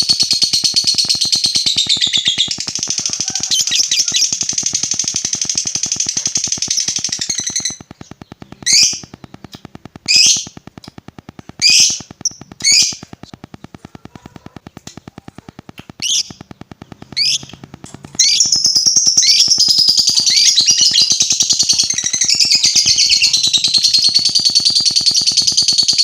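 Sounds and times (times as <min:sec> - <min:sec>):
lovebird chattering trill: 0:00.0 - 0:26.0.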